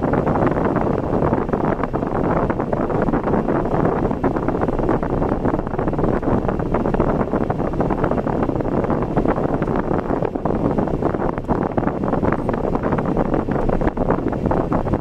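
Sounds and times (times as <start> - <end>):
car road and wind noise: 0.0 - 15.0
crackling wind buffeting: 0.0 - 15.0.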